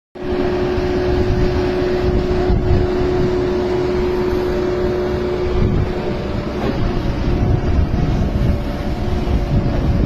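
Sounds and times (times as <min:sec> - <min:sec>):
tractor engine running: 0:00.2 - 0:10.0.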